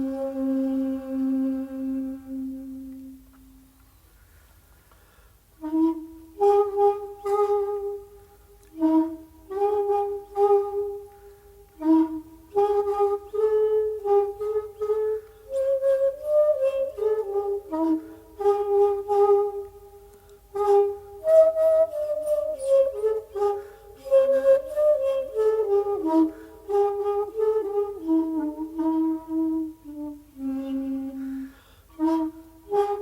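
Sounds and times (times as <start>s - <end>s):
bamboo flute playing: 0.0s - 4.4s, 5.6s - 33.0s
faint low hum: 0.0s - 33.0s.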